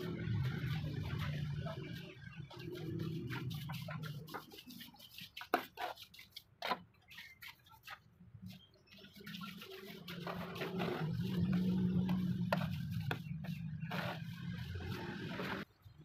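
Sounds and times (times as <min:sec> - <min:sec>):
trowel scraping mortar: 0:00.6 - 0:08.0, 0:09.0 - 0:15.7.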